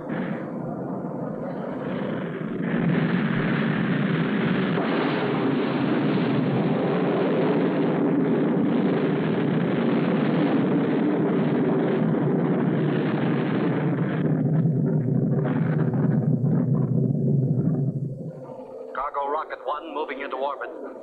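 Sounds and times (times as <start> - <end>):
rocket engine exhaust roar: 0.0 - 21.0.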